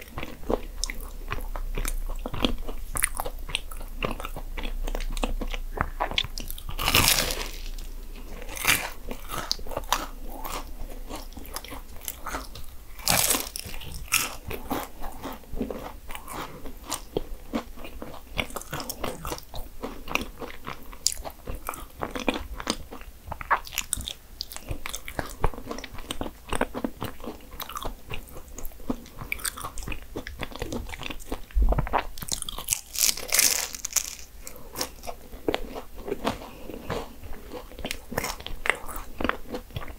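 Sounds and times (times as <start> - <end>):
crunchy pastry bites: 0.0 - 27.9, 28.9 - 39.9
chewing: 0.0 - 39.9.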